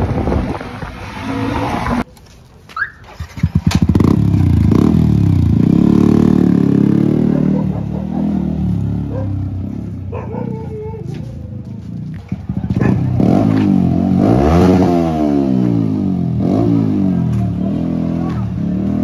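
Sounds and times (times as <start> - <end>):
motorcycle engine revving: 0.0 - 2.1, 3.0 - 19.0.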